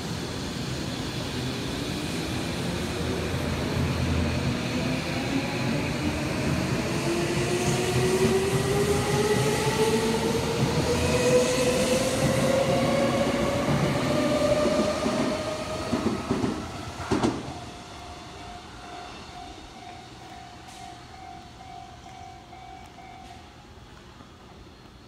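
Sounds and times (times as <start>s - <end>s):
train wheels rumbling and clattering: 0.0s - 25.0s.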